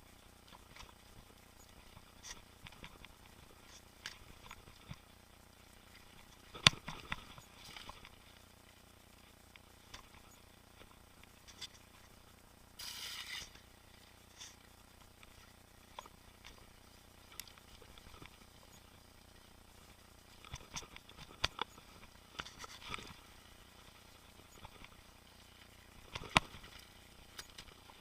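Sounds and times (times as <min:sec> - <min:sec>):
bike clicks and rattles: 0:00.4 - 0:05.1, 0:05.7 - 0:08.5, 0:09.1 - 0:12.2, 0:13.3 - 0:19.4, 0:20.2 - 0:28.0.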